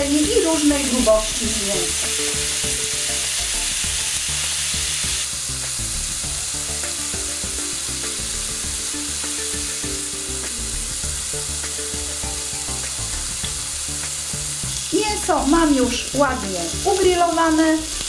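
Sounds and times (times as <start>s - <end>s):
chicken sizzling in a grill pan: 0.0s - 18.0s
soft background music: 0.0s - 18.0s.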